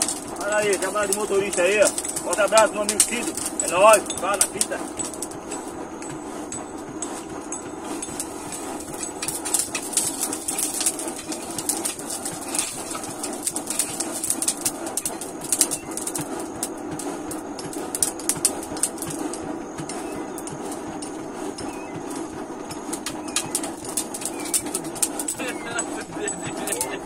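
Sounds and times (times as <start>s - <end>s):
sharp high clicks and ticks: 0.0s - 27.0s
steady low hum: 0.0s - 27.0s.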